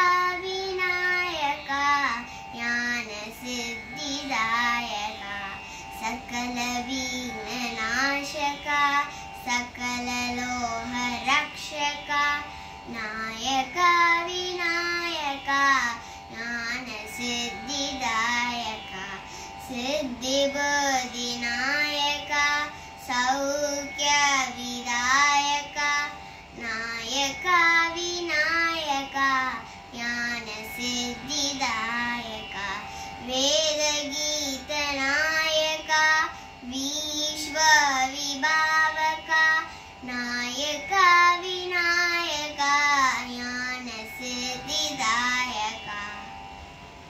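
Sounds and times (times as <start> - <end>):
girl singing: 0.0 - 46.4.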